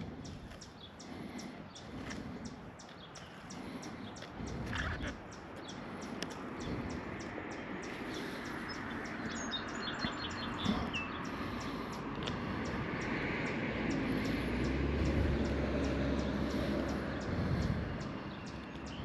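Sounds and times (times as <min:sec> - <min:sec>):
bird chirping: 0:00.0 - 0:19.0
rushing outdoor background noise: 0:00.0 - 0:19.0.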